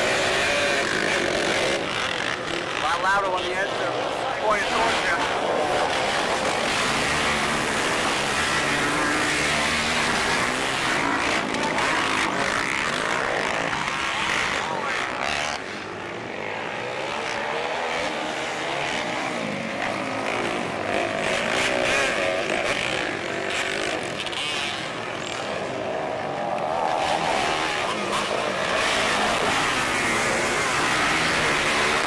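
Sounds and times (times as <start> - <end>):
atv engines revving: 0.0 - 32.0.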